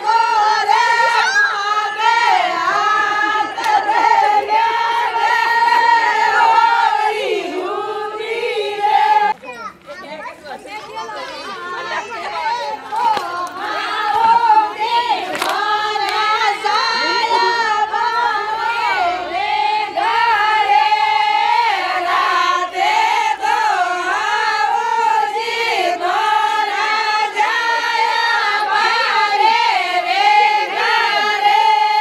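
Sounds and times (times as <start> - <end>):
women singing folk song: 0.0 - 9.4, 11.6 - 32.0.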